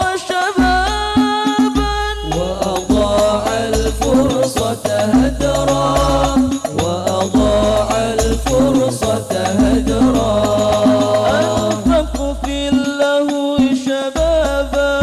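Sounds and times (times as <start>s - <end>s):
frame drums playing rhythm: 0.0s - 15.0s
man singing into a microphone: 0.0s - 15.0s.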